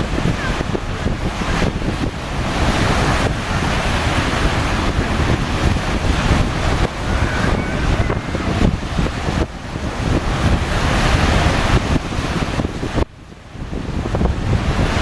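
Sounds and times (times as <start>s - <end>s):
waves and spray rushing: 0.0s - 15.0s
wind buffeting microphone: 0.0s - 15.0s.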